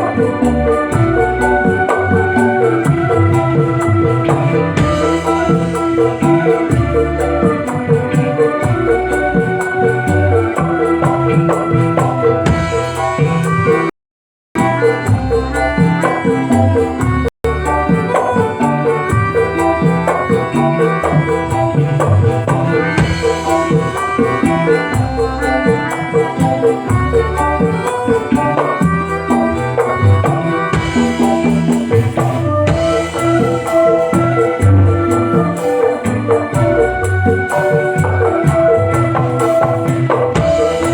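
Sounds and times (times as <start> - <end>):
music with percussion beat: 0.0 - 13.9, 14.6 - 40.9.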